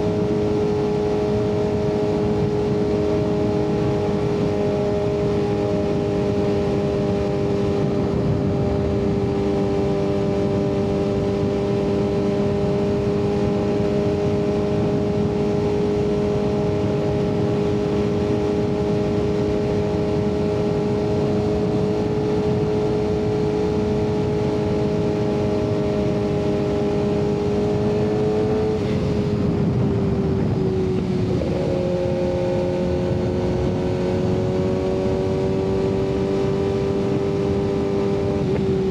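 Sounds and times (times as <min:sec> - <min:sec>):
motorcycle engine running: 0:00.0 - 0:38.9
rushing wind noise: 0:00.0 - 0:38.9.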